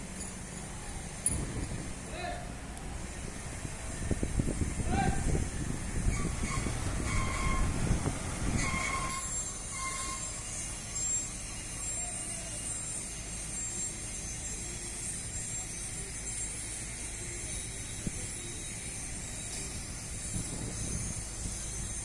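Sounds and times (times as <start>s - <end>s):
distant vehicles rumbling: 0.0s - 22.0s.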